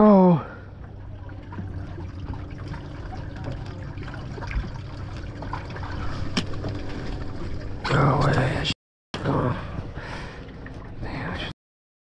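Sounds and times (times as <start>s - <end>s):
steady low hum: 0.2s - 11.5s
water trickling and sloshing: 0.4s - 8.6s, 9.3s - 11.5s.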